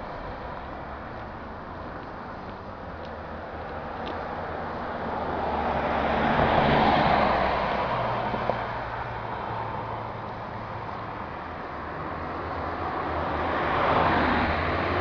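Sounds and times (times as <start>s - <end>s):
low traffic hum: 0.0s - 15.0s
vehicle passing: 0.0s - 15.0s.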